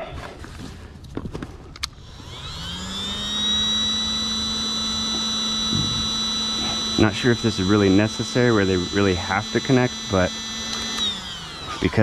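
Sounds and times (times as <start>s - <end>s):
electric air pump whining: 1.8s - 12.0s.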